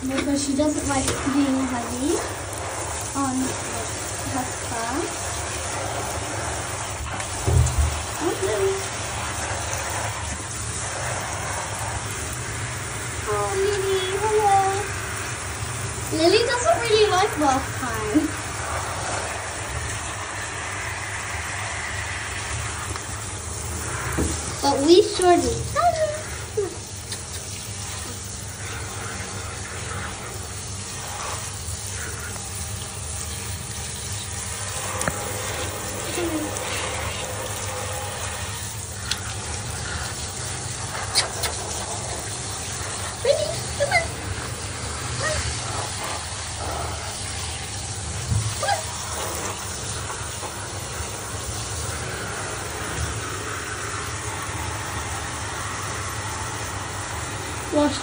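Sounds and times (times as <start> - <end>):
shower water spraying: 0.0 - 58.0.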